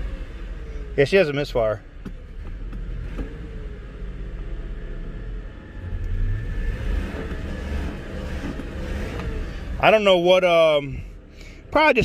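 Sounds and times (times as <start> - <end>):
car engine idling with misfire: 0.0 - 12.0.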